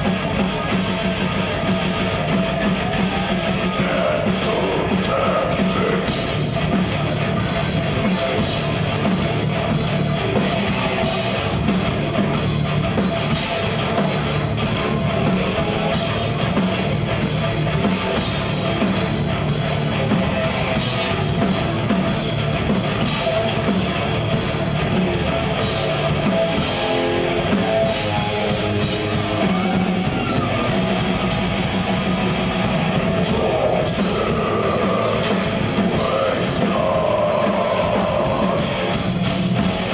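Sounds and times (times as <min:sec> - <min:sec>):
bass guitar: 0:00.0 - 0:39.9
distorted electric guitars: 0:00.0 - 0:39.9
fast drum kit: 0:00.0 - 0:39.9.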